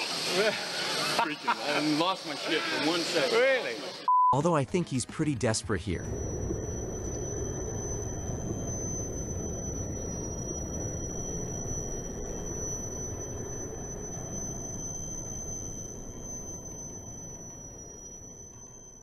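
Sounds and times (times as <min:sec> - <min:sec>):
thin high whine: 0:00.0 - 0:04.1, 0:05.9 - 0:19.0.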